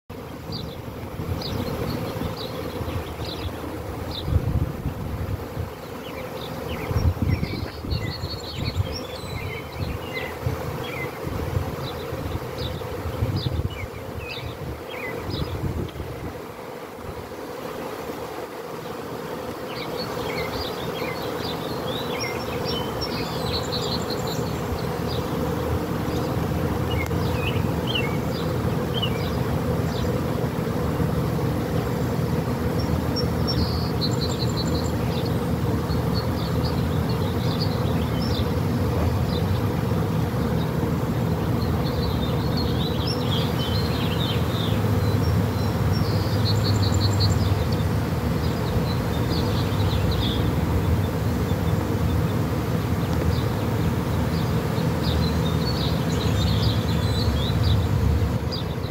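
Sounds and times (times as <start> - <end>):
bees buzzing: 0.1 - 58.9.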